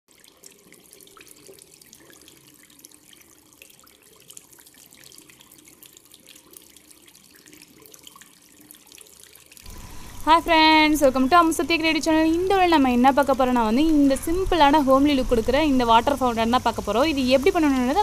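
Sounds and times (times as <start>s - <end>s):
fountain water trickling and splashing: 0.1s - 18.0s.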